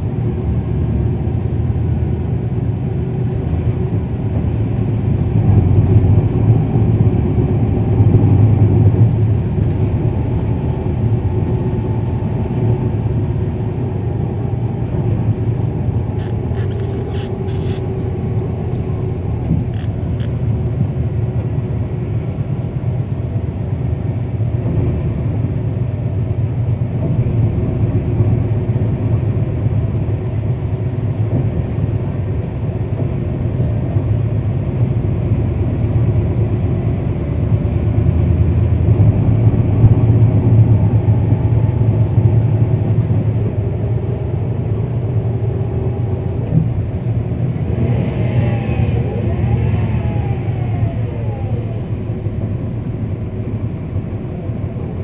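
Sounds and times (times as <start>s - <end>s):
bus diesel engine rumble: 0.0s - 55.0s.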